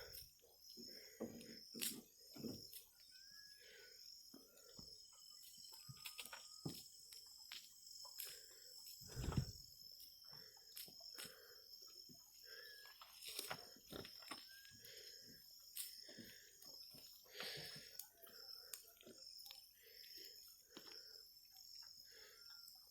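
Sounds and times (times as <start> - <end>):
insect chirring: 0.0 - 22.9.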